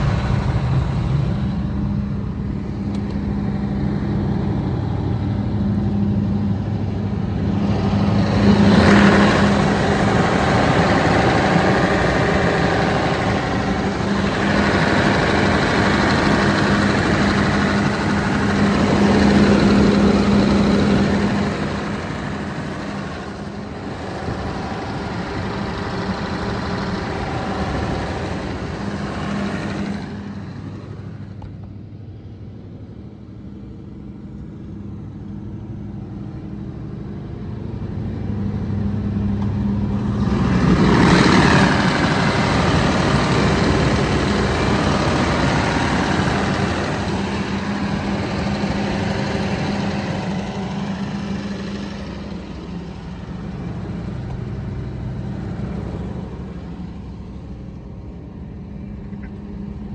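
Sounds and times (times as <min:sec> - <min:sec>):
diesel generator running: 0:00.0 - 0:59.9.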